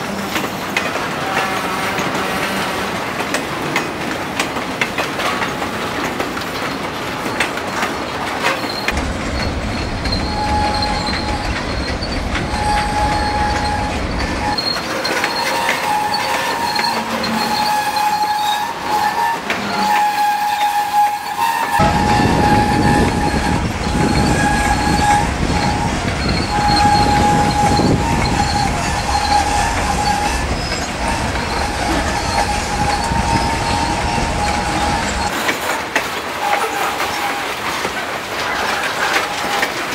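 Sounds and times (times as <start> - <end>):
high wheel squeal on rail: 0.0 - 4.4, 5.0 - 39.9
train wheels rumbling and clacking: 0.0 - 39.9.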